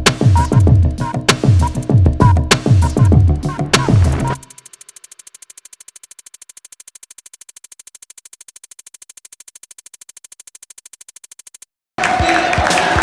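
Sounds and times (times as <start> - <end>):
rapid even clicking: 0.0 - 11.7.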